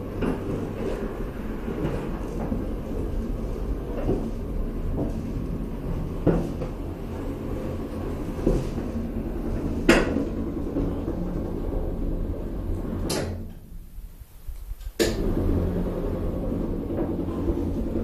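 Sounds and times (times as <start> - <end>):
observatory dome rotating rumble: 0.0 - 18.0.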